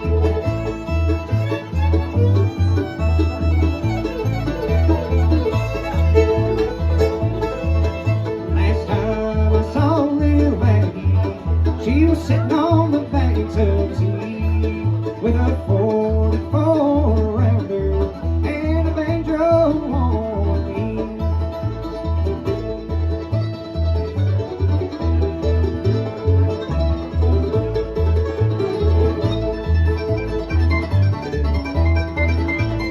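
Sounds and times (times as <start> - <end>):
banjo: 0.0 - 32.9
bass: 0.0 - 32.9
bowed-string melody: 0.0 - 32.9
guitar: 0.0 - 32.9.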